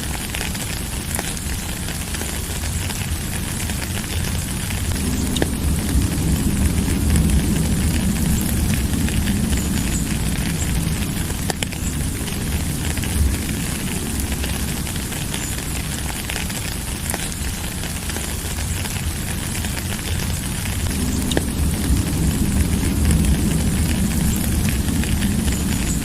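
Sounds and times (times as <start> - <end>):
steady rain with drop ticks: 0.0 - 26.0
low rumble: 1.1 - 26.0.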